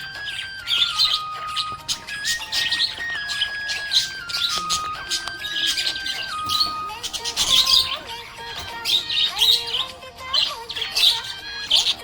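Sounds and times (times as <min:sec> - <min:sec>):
budgerigar chirping and warbling: 0:00.0 - 0:12.0
slow background music: 0:00.0 - 0:12.0.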